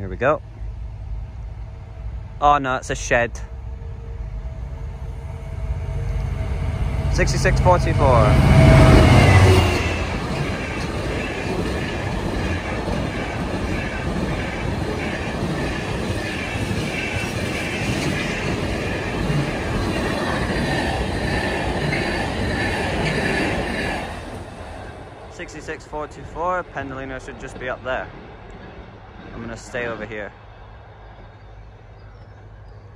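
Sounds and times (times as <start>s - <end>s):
freight train rolling past: 0.0s - 32.9s.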